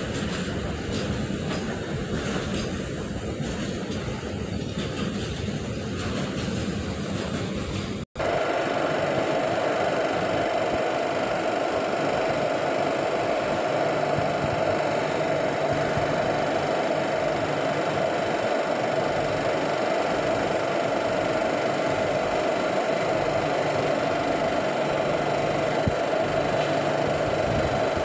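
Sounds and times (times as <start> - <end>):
locomotive idling drone: 0.0 - 28.0.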